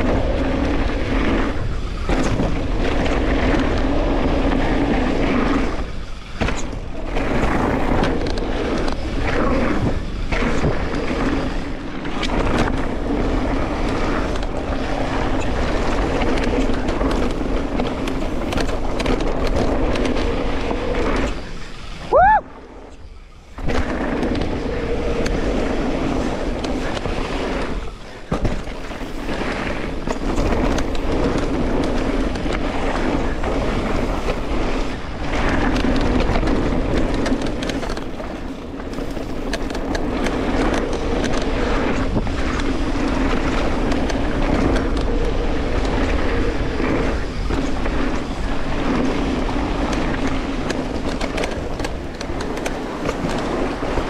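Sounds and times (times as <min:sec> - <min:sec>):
bike knocks and rattles: 0:00.0 - 0:21.8, 0:23.5 - 0:54.0
tyres rolling on dirt trail: 0:00.0 - 0:54.0
wind on microphone: 0:00.0 - 0:54.0.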